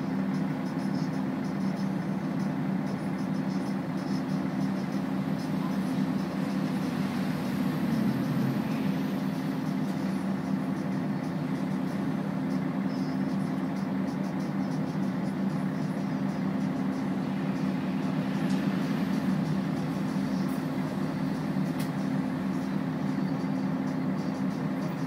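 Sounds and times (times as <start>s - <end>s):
bus diesel engine idling: 0.0s - 25.0s.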